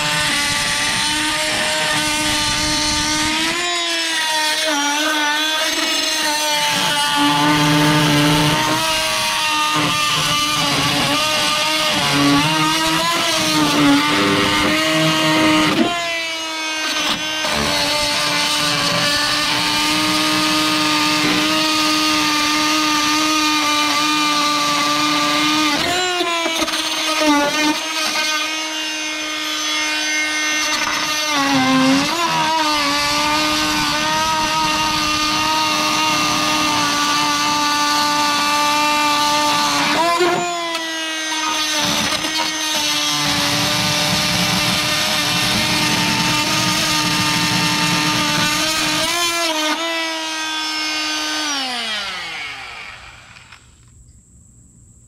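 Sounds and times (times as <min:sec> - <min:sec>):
oscillating multi-tool cutting metal: 0:00.0 - 0:53.8.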